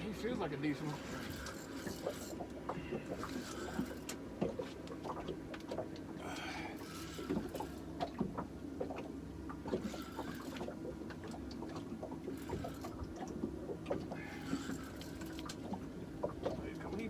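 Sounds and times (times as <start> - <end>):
boat motor humming: 0.0 - 17.0
water sloshing and splashing: 0.0 - 17.0.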